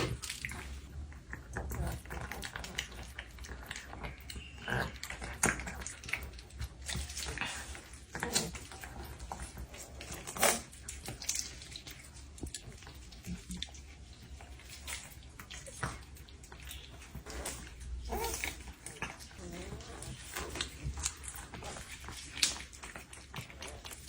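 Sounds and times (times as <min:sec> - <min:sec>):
dog chewing and smacking: 0:00.0 - 0:24.0.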